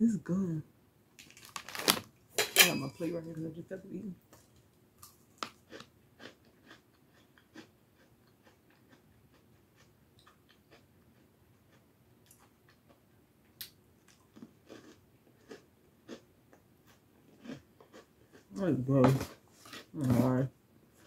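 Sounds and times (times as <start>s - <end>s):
chewing and crunching cookie: 1.2s - 2.0s, 4.3s - 20.4s.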